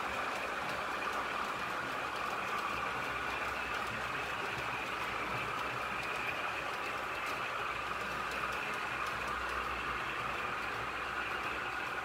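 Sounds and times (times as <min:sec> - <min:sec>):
faint clicks from rails: 0:00.0 - 0:12.0
model train wheels and motor whirring: 0:00.0 - 0:12.0.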